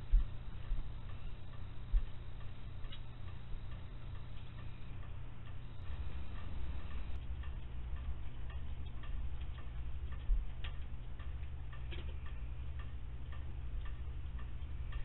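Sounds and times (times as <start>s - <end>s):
faint even ticking: 0.0s - 15.0s
steady low hum: 0.0s - 15.0s.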